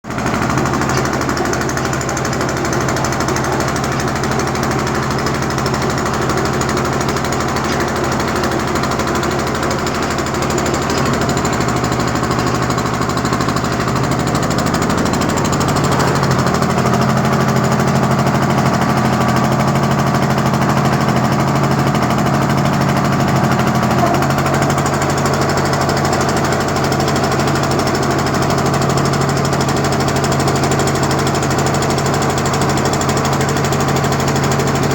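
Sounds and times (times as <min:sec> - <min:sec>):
construction machine engine rattling: 0:00.0 - 0:34.9.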